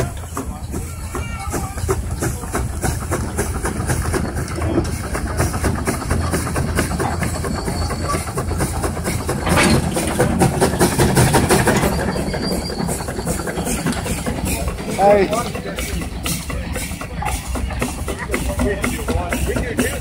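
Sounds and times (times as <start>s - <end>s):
steam engine exhaust chuffing: 0.0s - 20.0s.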